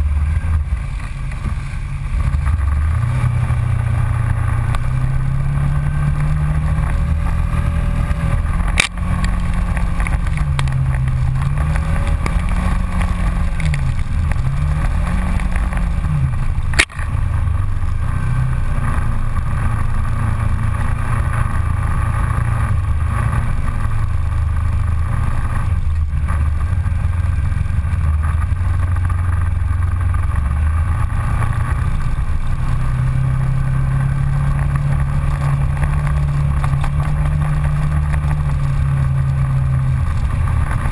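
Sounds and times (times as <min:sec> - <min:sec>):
utility vehicle engine running: 0:00.0 - 0:40.9.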